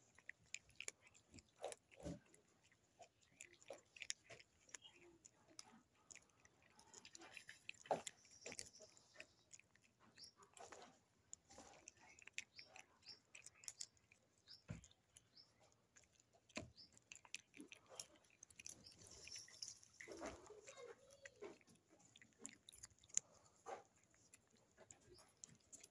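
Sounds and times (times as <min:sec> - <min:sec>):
cat crunching dry food: 0:00.0 - 0:25.9.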